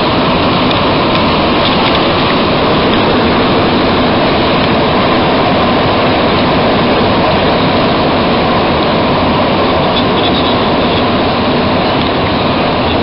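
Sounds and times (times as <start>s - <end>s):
train running through tunnel: 0.0s - 13.0s.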